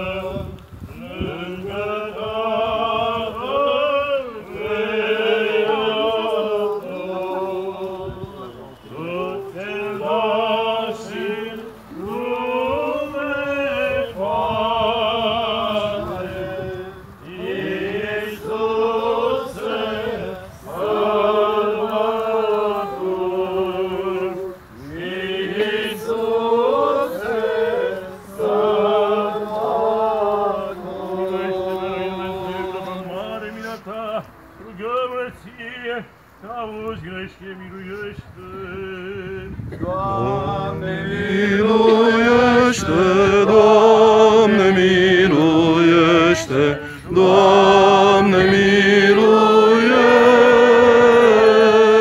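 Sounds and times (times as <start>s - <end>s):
group chanting a hymn: 0.0s - 52.0s.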